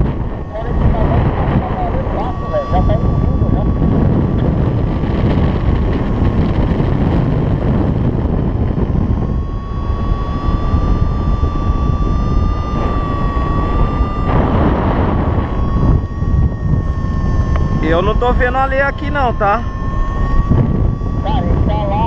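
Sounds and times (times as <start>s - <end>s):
steady high electronic tone: 0.0s - 22.0s
wind rushing over microphone: 0.0s - 22.0s.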